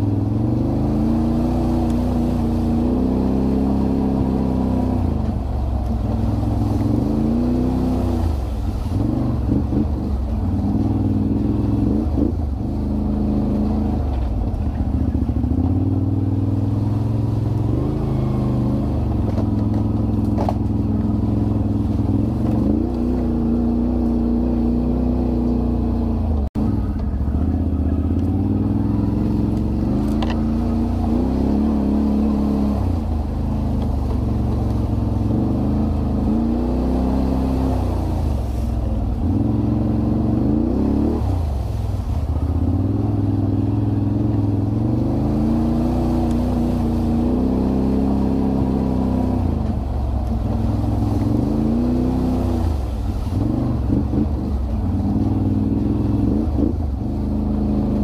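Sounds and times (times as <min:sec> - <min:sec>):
atv engine revving while riding: 0:00.0 - 0:58.0.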